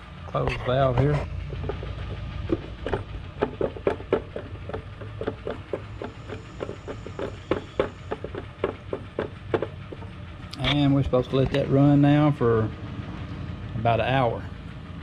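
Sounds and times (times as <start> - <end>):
vacuum pump humming: 0.0 - 13.5.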